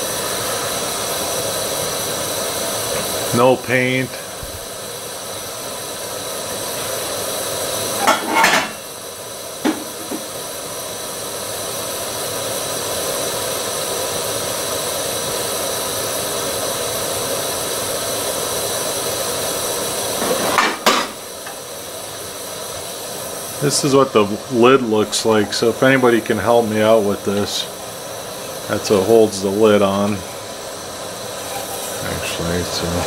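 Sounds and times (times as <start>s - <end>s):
gas stove burner hissing: 0.0s - 33.0s.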